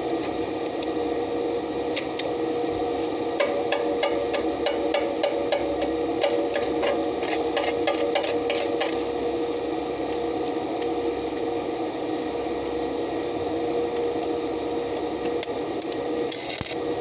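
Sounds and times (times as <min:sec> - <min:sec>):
steady hum: 0:00.0 - 0:17.0
welding arc crackling: 0:00.2 - 0:17.0.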